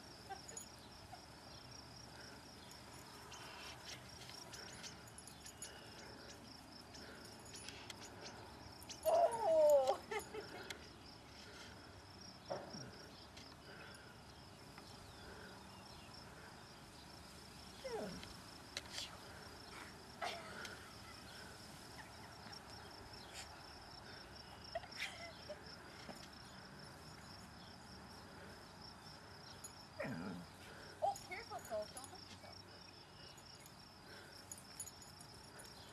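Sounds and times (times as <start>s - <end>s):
insects trilling: 0.0s - 35.9s.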